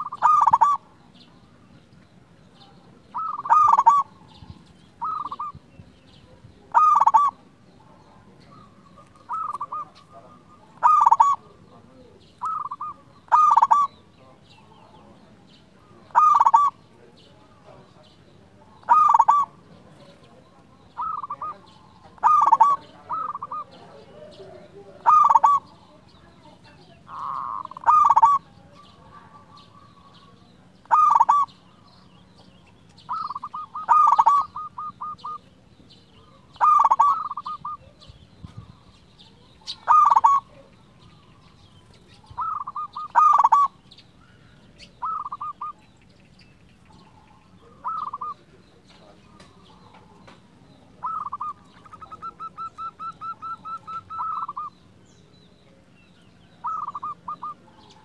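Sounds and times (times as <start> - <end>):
dove cooing: 0.0 - 1.4, 2.6 - 15.0, 15.8 - 18.0, 18.7 - 31.9, 33.0 - 35.5, 36.2 - 45.8, 46.8 - 55.3, 56.5 - 58.0.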